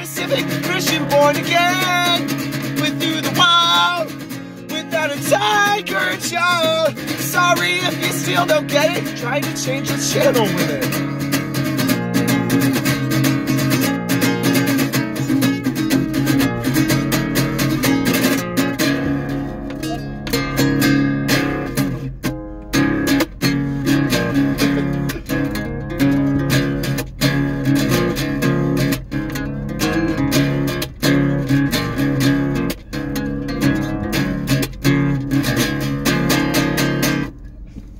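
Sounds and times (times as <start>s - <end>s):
acoustic guitar strumming: 0.0s - 37.9s.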